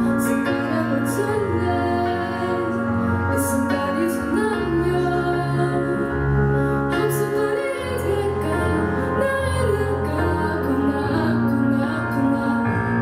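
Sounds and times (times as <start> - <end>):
woman singing: 0.0 - 6.3, 6.9 - 13.0
piano chords: 0.0 - 13.0.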